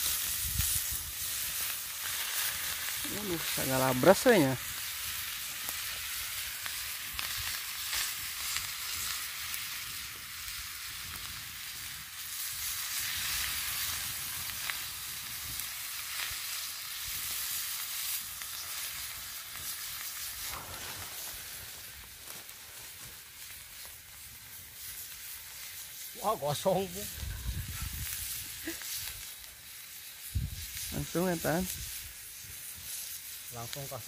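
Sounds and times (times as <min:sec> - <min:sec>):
vegetables sizzling in a wok: 0:00.0 - 0:34.0.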